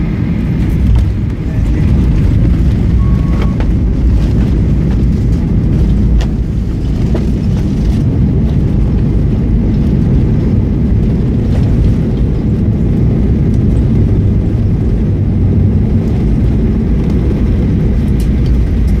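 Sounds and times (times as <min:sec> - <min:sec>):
jet engine rumble: 0:00.0 - 0:19.0
wheels rolling on tarmac: 0:00.0 - 0:19.0.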